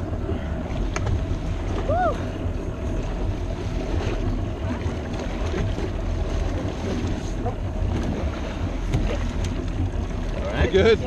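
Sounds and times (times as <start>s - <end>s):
water sloshing against boat: 0.0s - 11.0s
wind rumble on microphone: 0.0s - 11.0s.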